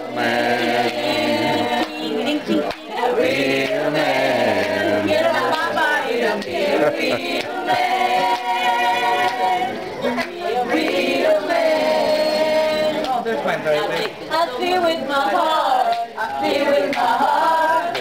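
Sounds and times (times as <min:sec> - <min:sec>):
group singing unaccompanied: 0:00.0 - 0:18.0.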